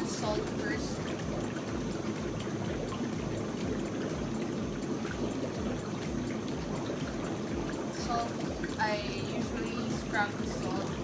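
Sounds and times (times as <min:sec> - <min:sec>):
whirlpool water churning and bubbling: 0:00.0 - 0:11.0.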